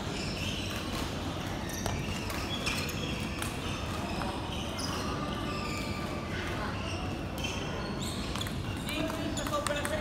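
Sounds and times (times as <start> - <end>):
sports hall background noise: 0.0 - 10.0.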